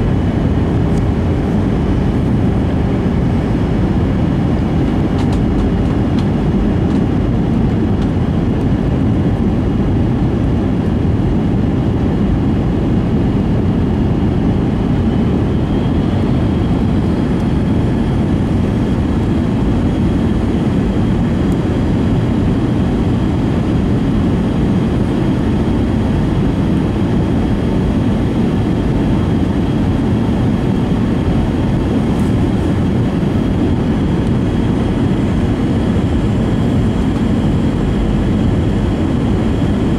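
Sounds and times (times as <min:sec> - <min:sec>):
airliner cabin airflow rush: 0:00.0 - 0:39.9
jet engines running: 0:00.0 - 0:39.9.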